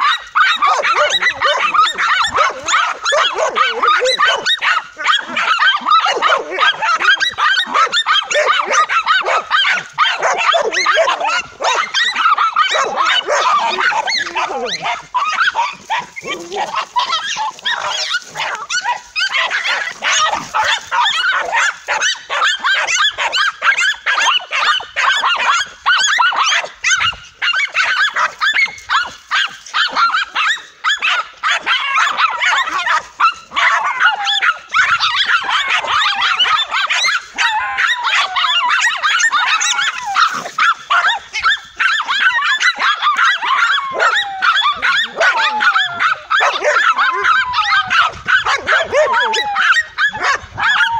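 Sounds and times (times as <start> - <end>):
dog gliding yelps: 0.0 - 50.9
dogs barking and yipping: 0.0 - 50.9.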